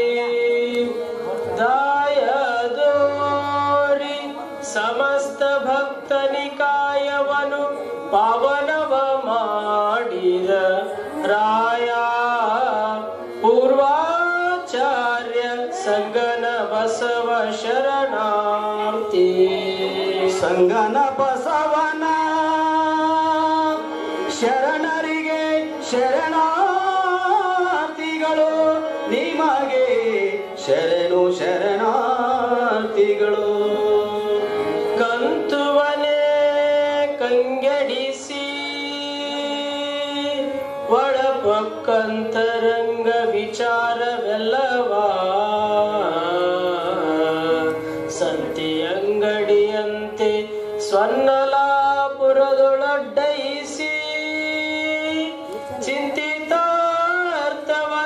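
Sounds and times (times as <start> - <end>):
harmonium: 0.0 - 58.0
man singing slow melody: 0.0 - 58.0.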